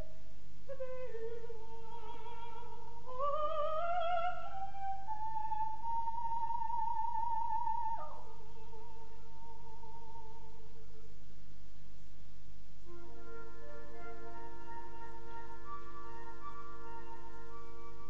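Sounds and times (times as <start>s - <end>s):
operatic soprano singing: 0.7s - 10.7s, 12.9s - 18.0s.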